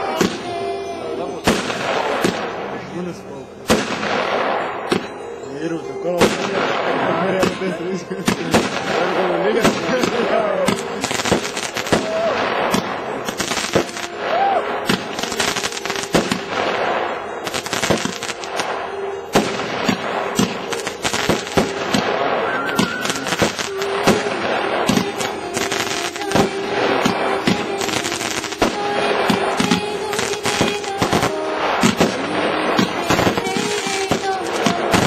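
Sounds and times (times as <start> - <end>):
fireworks bangs and crackles: 0.0 - 0.6, 1.3 - 5.3, 6.2 - 35.0.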